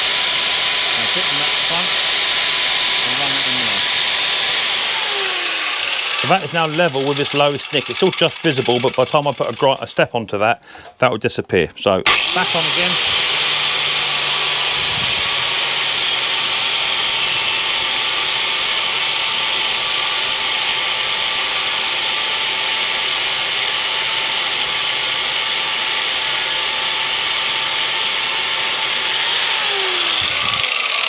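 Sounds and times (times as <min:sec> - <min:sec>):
angle grinder grinding steel: 0:00.0 - 0:10.0, 0:12.0 - 0:31.0.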